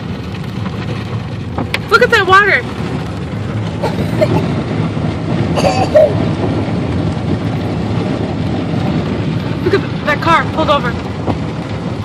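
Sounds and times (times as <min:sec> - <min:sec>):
tyres rumbling through water: 0:00.0 - 0:12.0.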